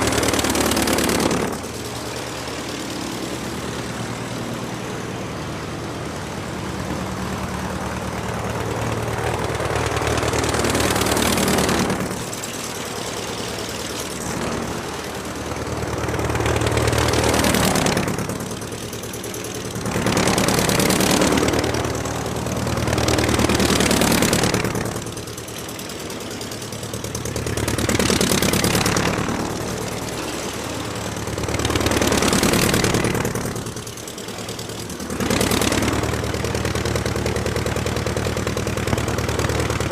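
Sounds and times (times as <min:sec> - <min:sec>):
aircraft engine running: 0:00.0 - 0:39.9.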